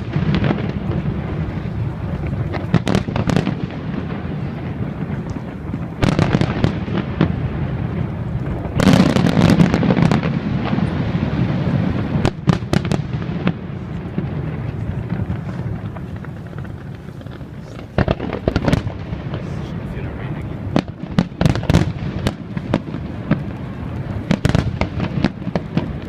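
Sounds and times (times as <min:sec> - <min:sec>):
continuous rumble: 0:00.0 - 0:26.0
firework shells bursting: 0:00.0 - 0:26.0.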